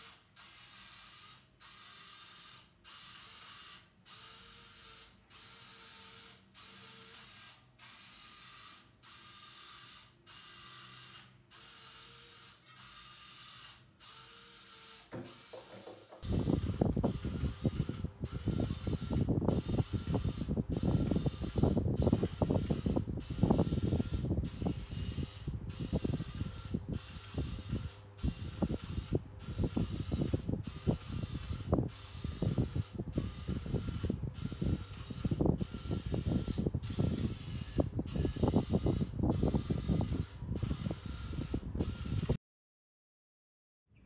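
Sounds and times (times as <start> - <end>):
small geared motor whirring and clicking: 0.0 - 42.4.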